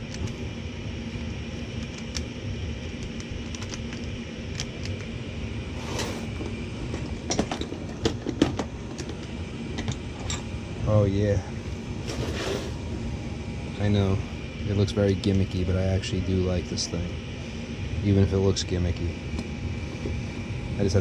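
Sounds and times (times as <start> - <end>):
gas furnace humming: 0.0 - 21.0.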